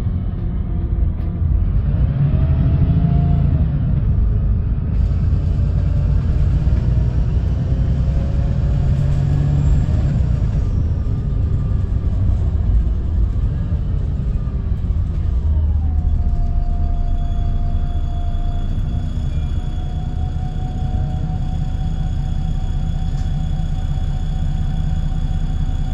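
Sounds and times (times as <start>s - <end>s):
bus engine rumble: 0.0s - 25.9s.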